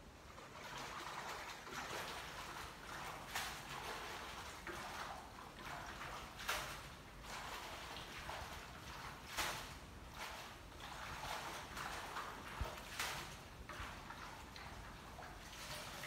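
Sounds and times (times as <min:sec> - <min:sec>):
water sloshing in a plastic basin: 0:00.1 - 0:16.0.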